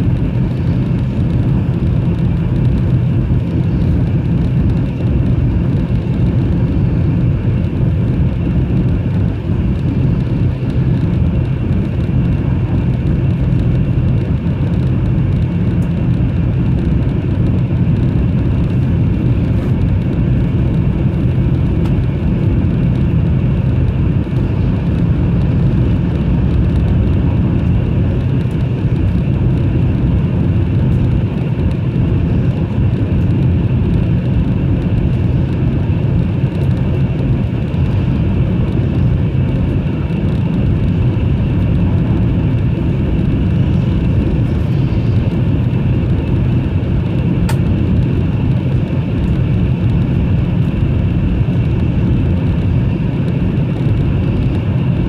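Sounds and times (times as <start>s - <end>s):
train rumbling at speed: 0.0s - 55.0s.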